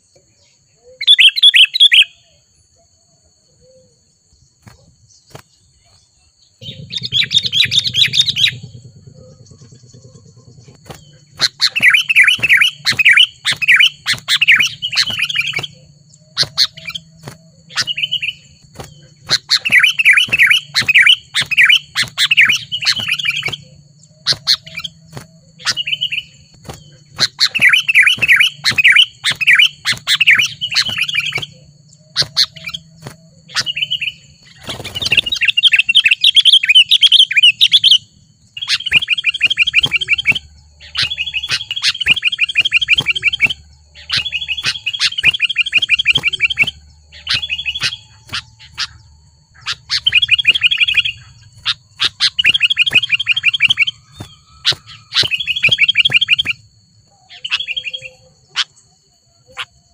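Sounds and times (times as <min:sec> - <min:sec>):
bird singing chattering chirps: 0:00.0 - 0:02.8, 0:03.4 - 0:59.9
bird short calls and clicking notes: 0:01.0 - 0:02.1, 0:06.6 - 0:58.8.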